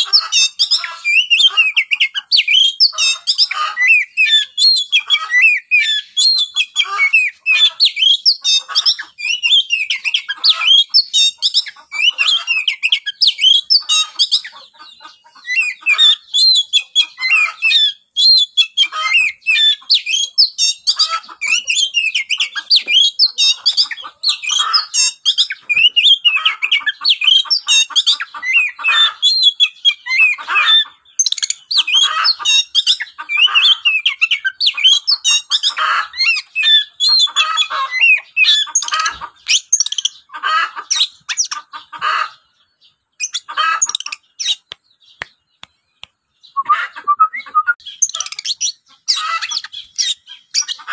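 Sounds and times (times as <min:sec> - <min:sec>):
many birds chirping: 0:00.0 - 0:50.9.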